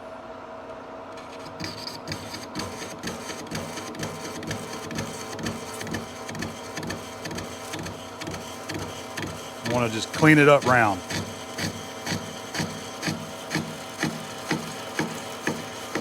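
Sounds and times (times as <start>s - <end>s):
lathe running hum: 1.1s - 16.0s
lathe tool knocking on steel: 1.2s - 16.0s.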